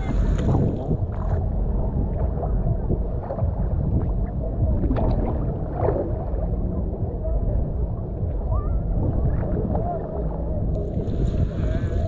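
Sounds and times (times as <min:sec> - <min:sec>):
muffled sea waves sloshing: 0:00.0 - 0:12.0.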